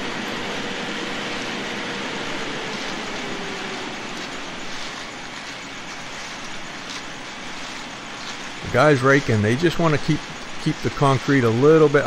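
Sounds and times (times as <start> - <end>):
concrete pump machinery noise: 0.0 - 12.0.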